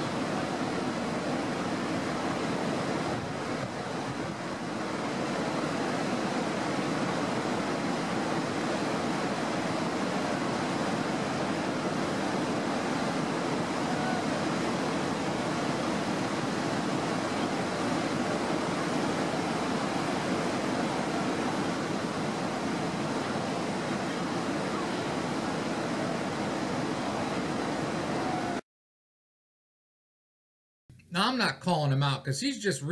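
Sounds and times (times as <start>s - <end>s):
waterfall rushing: 0.0s - 28.6s.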